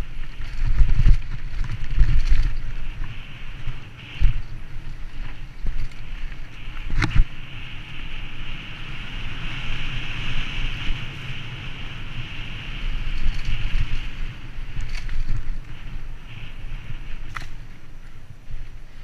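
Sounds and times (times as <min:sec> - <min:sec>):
bike rattling: 0:00.0 - 0:19.0
rumbling tyre noise: 0:00.0 - 0:19.0
wind rushing over microphone: 0:00.0 - 0:19.0.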